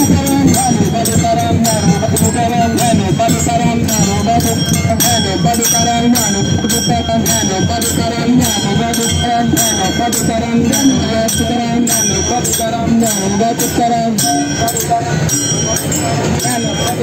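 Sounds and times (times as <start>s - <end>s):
barrel drum beat: 0.0s - 17.0s
hand cymbals clashing: 0.0s - 17.0s
man singing through microphone: 0.0s - 17.0s.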